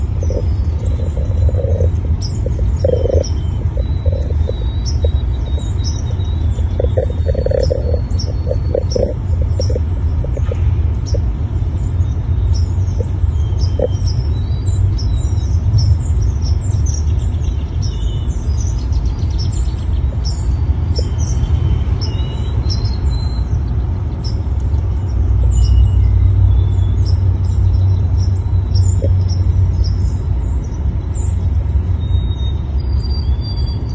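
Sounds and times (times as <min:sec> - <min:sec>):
small bird chirping: 0:00.0 - 0:33.9
steady low rumble: 0:00.0 - 0:33.9.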